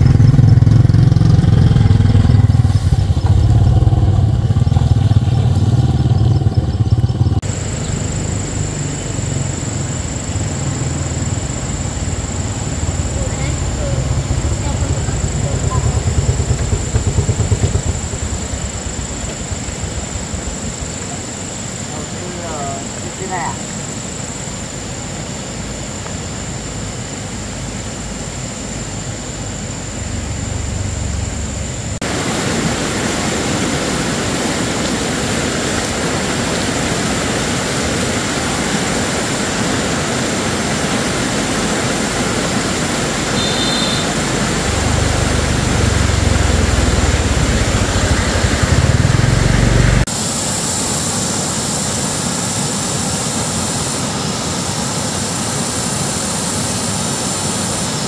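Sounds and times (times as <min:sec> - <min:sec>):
mountain stream rushing: 0:07.4 - 0:58.0.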